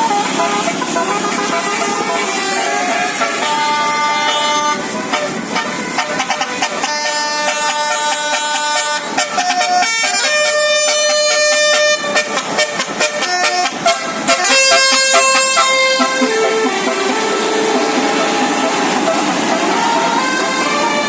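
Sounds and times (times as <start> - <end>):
bus musical air horn: 0.0 - 21.0.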